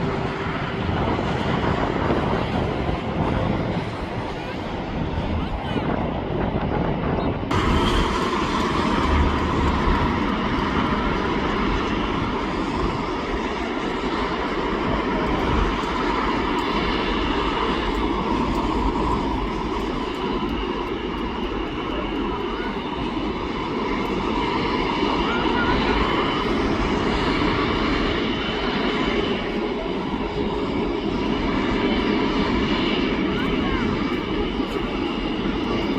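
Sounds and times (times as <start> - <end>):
jet engines rumbling and whining: 0.0 - 35.9.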